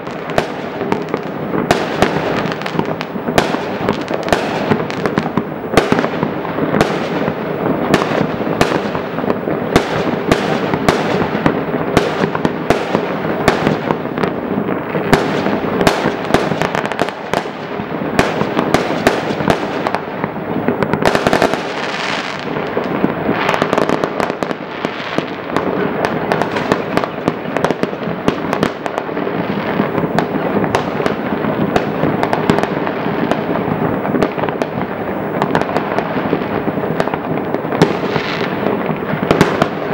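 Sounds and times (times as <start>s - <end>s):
fireworks and firecrackers exploding: 0.0s - 39.9s.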